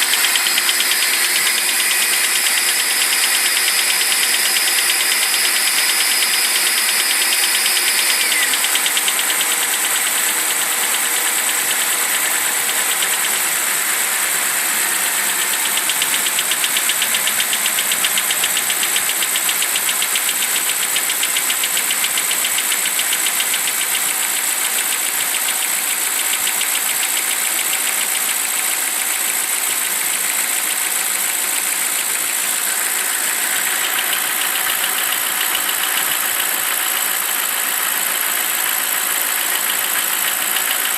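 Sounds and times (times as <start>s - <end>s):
engine idling with clacking: 0.0s - 40.9s.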